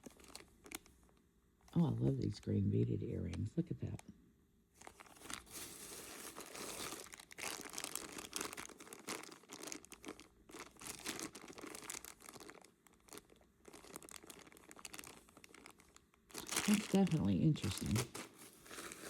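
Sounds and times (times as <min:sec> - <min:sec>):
plastic bags crinkling: 0:00.0 - 0:01.2, 0:04.8 - 0:19.0.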